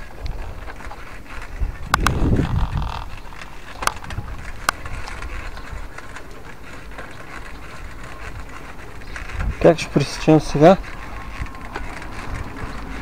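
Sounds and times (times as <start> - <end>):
bicycle tyres rumbling on paving: 0.0 - 13.0
bike clicks and knocks: 0.0 - 13.0.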